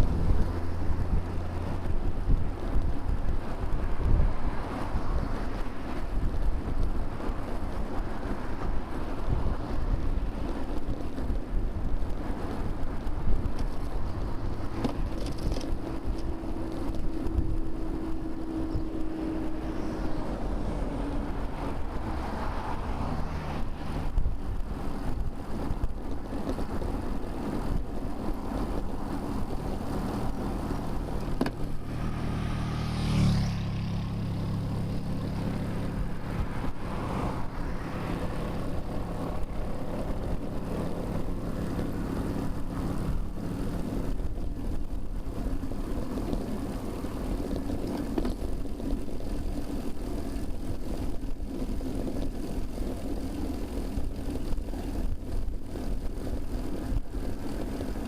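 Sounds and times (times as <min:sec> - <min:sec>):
motor traffic rumble: 0:00.0 - 0:58.0
vehicle engine hum: 0:00.0 - 0:58.0
wind buffeting microphone: 0:00.0 - 0:58.0.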